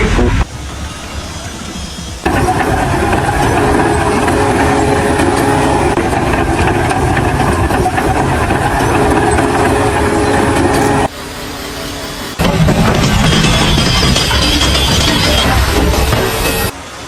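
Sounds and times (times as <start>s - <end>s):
heavy engine rumbling and rattling: 0.0s - 17.0s.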